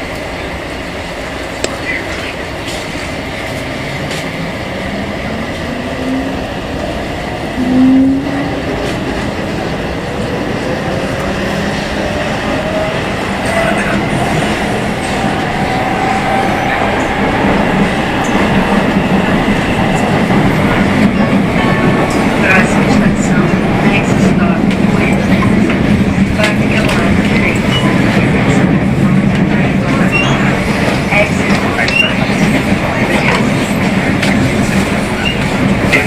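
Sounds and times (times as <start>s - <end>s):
train wheel and running noise: 0.0s - 36.0s.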